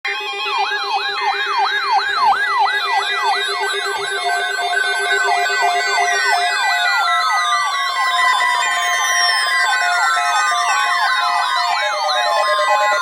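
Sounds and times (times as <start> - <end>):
electronic siren yelp: 0.1 - 13.0
pulsing low alarm tone: 0.1 - 13.0.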